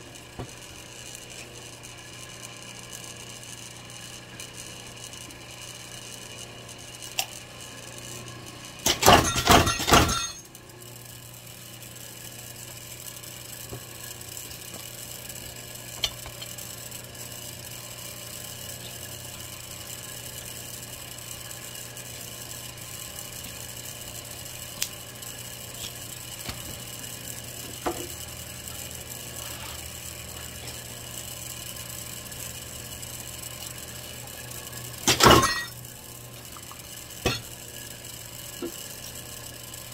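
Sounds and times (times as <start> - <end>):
press humming: 3.3 - 10.5, 11.4 - 39.9.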